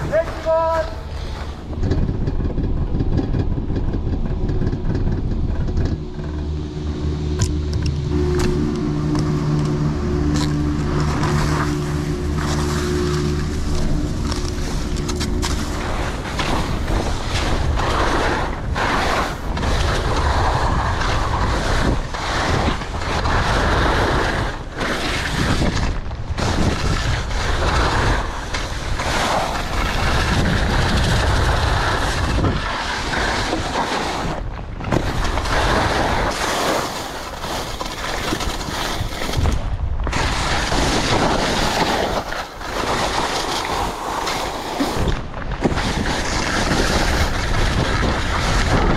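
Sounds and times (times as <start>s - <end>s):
skis scraping through snow: 0.0s - 1.8s, 8.3s - 48.9s
wind rushing over microphone: 0.0s - 48.9s.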